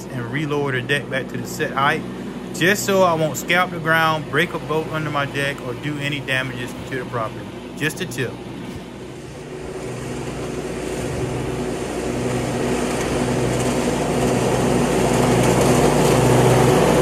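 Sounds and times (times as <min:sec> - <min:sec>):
riding mower engine running: 0:00.0 - 0:17.0.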